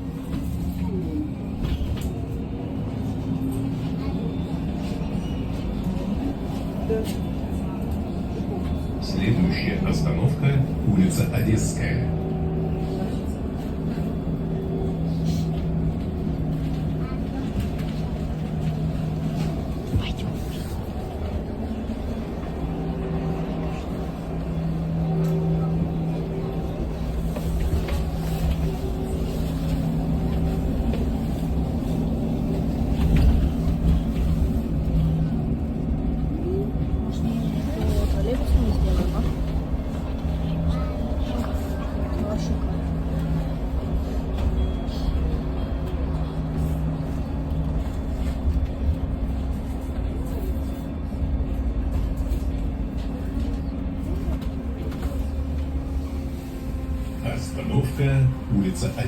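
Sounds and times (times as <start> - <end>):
road rumble: 0.0 - 59.0.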